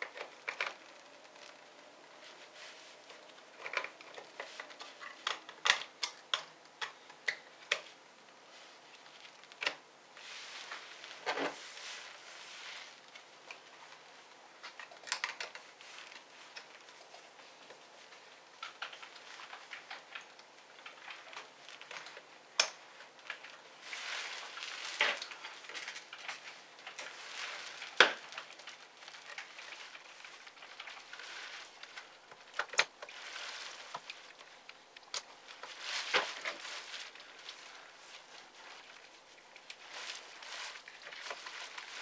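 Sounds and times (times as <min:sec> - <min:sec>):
soft rustling: 0:00.0 - 0:06.0, 0:06.8 - 0:42.0.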